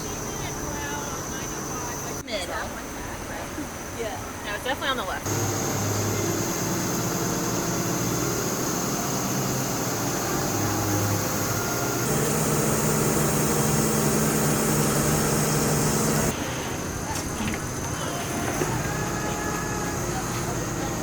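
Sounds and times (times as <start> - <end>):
machine running with low hum: 0.0 - 2.2, 5.3 - 21.0.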